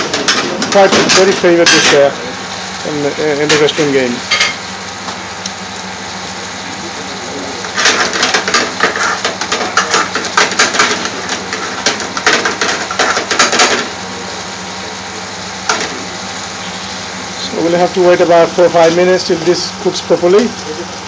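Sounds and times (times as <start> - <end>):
sauce hissing in a pan: 0.0 - 21.0.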